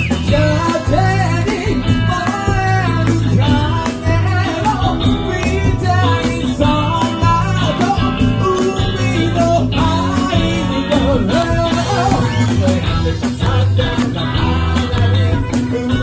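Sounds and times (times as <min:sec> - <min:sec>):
drums: 0:00.0 - 0:16.0
electric guitar: 0:00.0 - 0:16.0
male lead vocal: 0:00.0 - 0:16.0.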